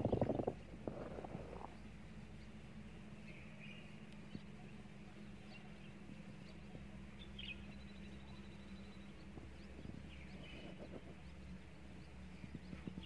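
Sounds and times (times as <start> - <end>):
faint bird chirps: 0.0 - 13.0
low steady hum: 0.0 - 13.0.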